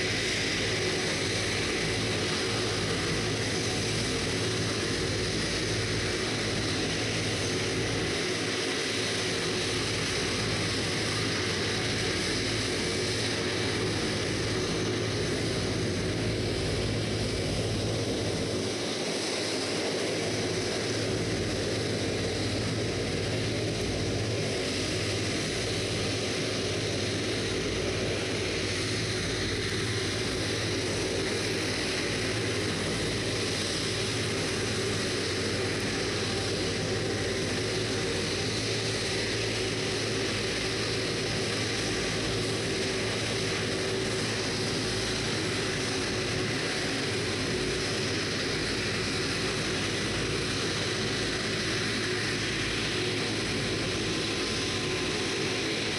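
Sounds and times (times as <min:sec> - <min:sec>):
jet engines whining at taxi power: 0:00.0 - 0:55.9.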